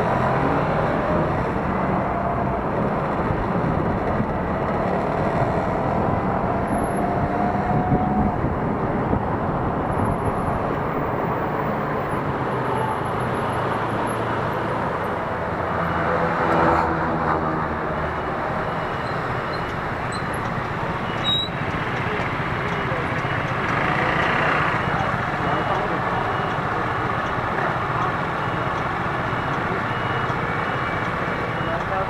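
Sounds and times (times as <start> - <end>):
street traffic: 0.0 - 32.0.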